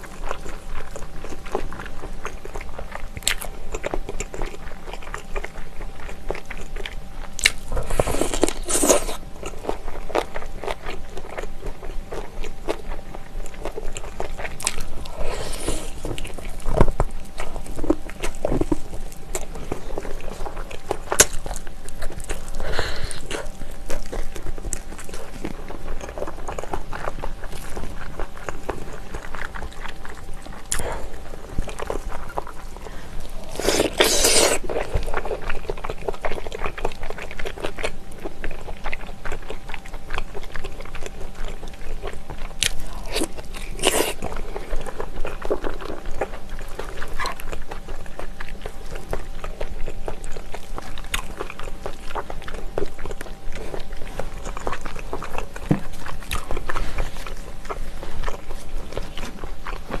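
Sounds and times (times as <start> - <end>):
wet chewing and lip smacking: 0.0 - 60.0.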